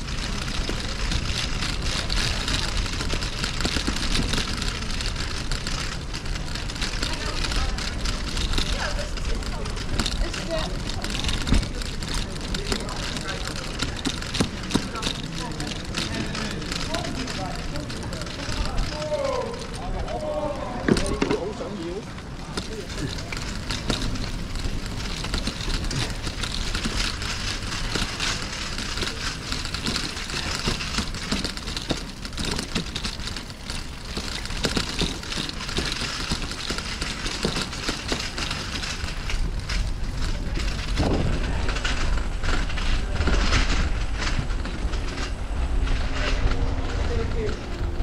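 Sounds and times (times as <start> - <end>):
bicycle rattles and clicks: 0.0 - 48.0
bicycle tyres rumbling on bricks: 0.0 - 48.0.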